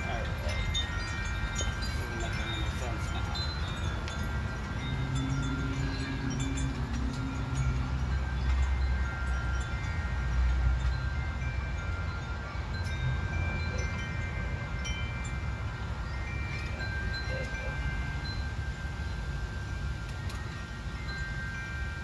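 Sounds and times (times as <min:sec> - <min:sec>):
chimes ringing: 0:00.0 - 0:22.0.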